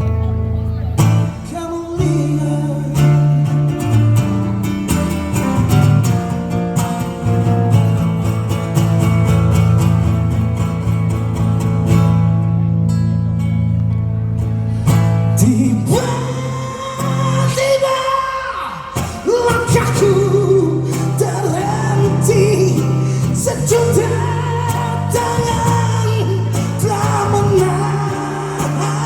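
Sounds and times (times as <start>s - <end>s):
bass: 0.0s - 29.0s
strummed acoustic guitar: 0.0s - 29.0s.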